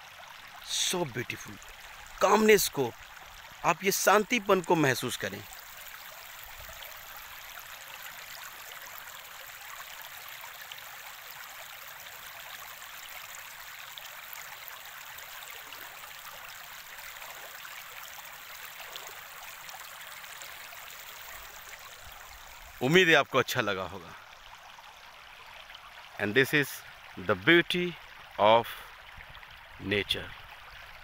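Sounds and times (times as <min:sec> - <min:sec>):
water flowing over gravel: 0:00.0 - 0:31.0.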